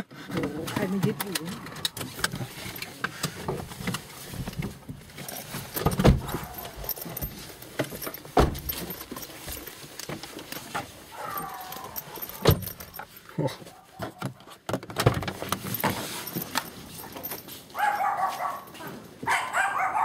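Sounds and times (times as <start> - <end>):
clicks and rattles inside a car: 0.0 - 19.5.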